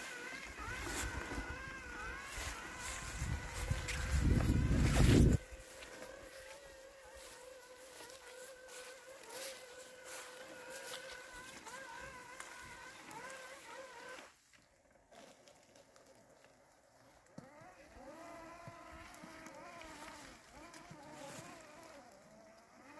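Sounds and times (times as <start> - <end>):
robotic mower motor whine: 0.0 - 22.9.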